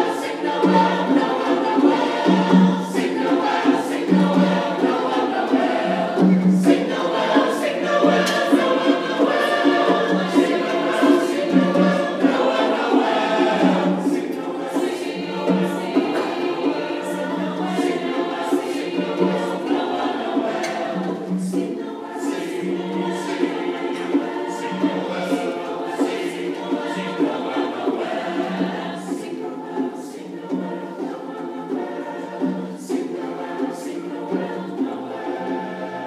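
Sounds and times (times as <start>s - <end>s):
sharp taps keeping a beat: 0.0s - 35.8s
choir singing a carol: 0.0s - 36.0s.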